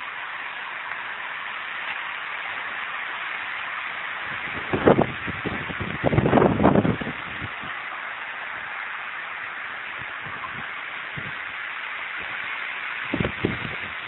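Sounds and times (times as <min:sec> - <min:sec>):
wind hiss on microphone: 0:00.0 - 0:14.0.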